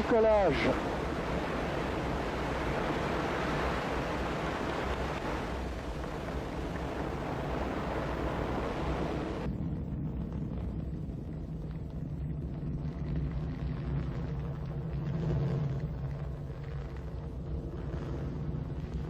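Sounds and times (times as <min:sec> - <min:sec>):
rocket engines roaring: 0:00.0 - 0:19.0.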